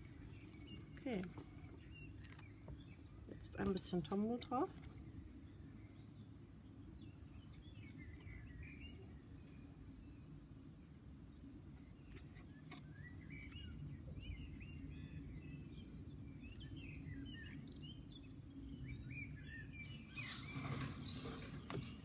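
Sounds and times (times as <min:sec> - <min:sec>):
low outdoor background hum: 0:00.0 - 0:22.0
small birds chirping: 0:00.0 - 0:22.0.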